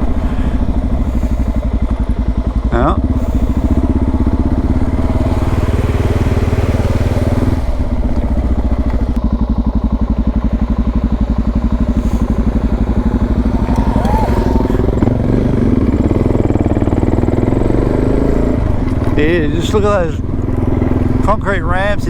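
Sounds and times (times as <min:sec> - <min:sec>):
motorcycle engine thumping: 0:00.0 - 0:22.0.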